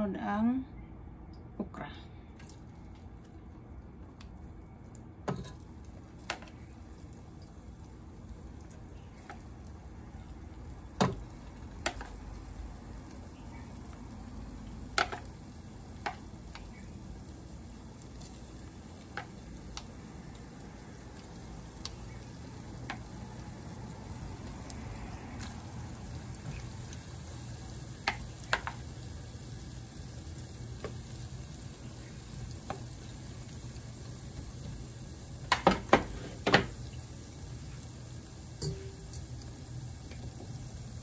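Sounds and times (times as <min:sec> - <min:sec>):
okra sizzling in hot oil: 0:02.4 - 0:41.0.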